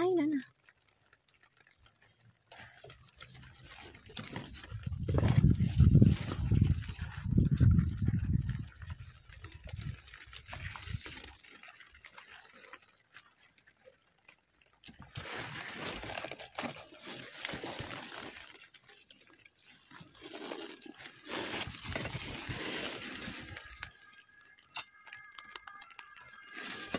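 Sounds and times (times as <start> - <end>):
rain pattering: 0.0 - 26.9
leaves rustling: 0.7 - 26.9.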